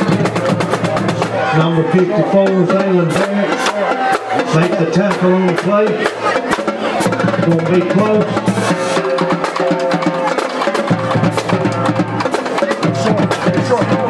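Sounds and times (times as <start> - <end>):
brass band notes: 0.0 - 14.0
rapid drumline hits: 0.0 - 14.0.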